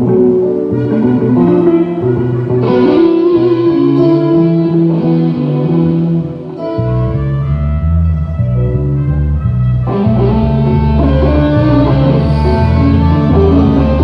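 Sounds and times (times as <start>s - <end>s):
bass guitar line: 0.0s - 14.0s
electric guitar melody: 0.0s - 14.0s.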